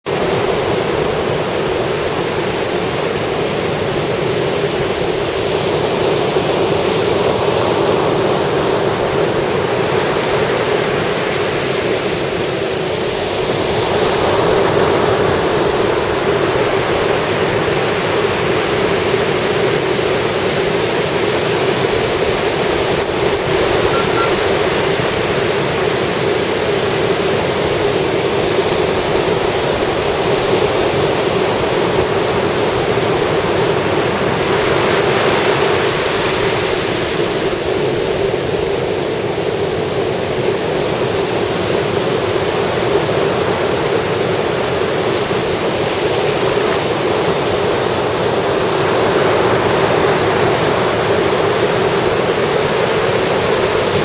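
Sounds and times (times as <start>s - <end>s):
ocean surf washing up beach: 0.1s - 54.0s.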